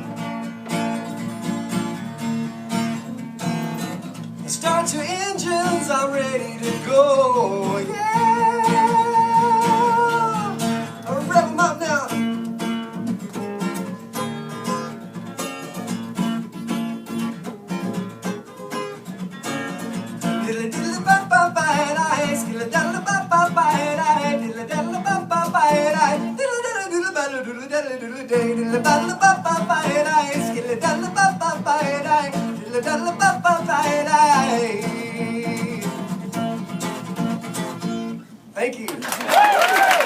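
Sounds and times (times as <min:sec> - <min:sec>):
acoustic guitar playing: 0:00.0 - 0:38.6.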